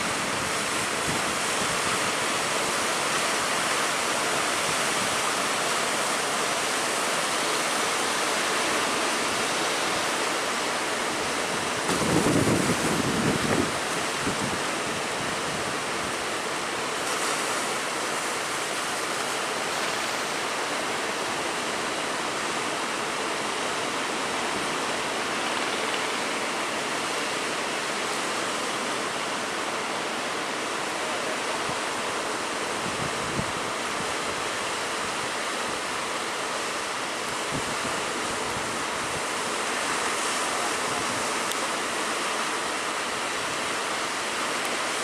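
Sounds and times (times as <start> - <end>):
rough sea waves rushing: 0.0 - 45.0.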